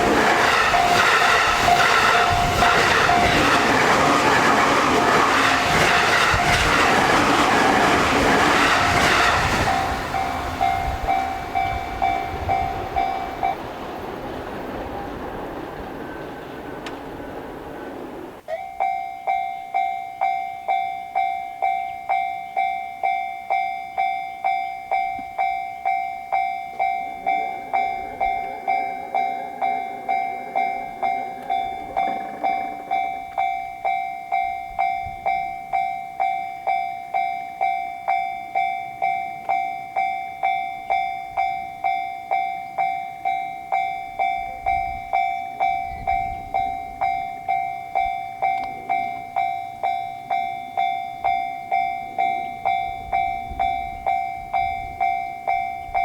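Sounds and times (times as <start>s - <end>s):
level-crossing alarm bell ringing: 0.0s - 14.0s, 18.4s - 56.0s
train running noise: 0.0s - 19.8s, 20.6s - 56.0s.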